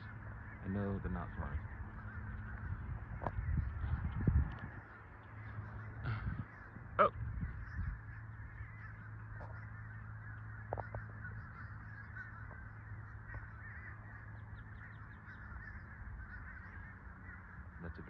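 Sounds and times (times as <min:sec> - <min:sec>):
flock of birds chattering: 0:00.0 - 0:18.0
low hum: 0:00.0 - 0:18.0.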